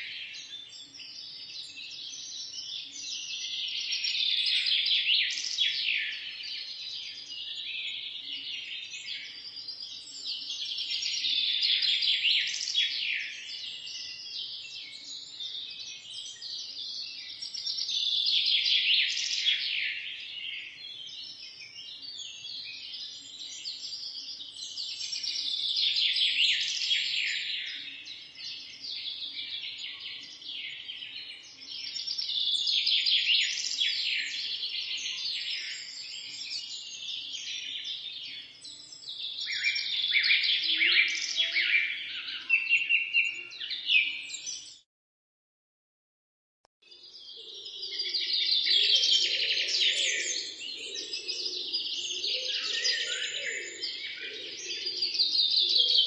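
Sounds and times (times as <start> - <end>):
small birds chirping: 0.0 - 44.9, 46.8 - 56.0.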